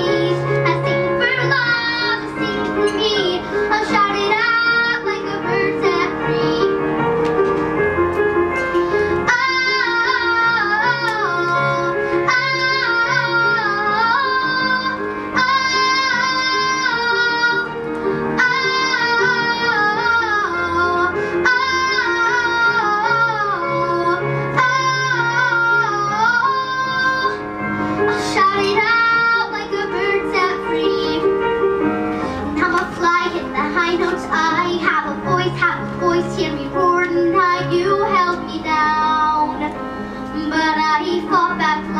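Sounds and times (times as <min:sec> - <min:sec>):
girl singing a ballad: 0:00.0 - 0:41.9
instrumental accompaniment: 0:00.0 - 0:41.9.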